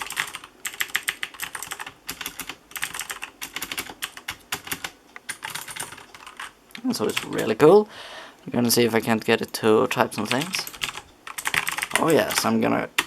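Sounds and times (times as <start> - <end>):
typing on mechanical keyboard: 0.0 - 7.6, 10.1 - 13.0.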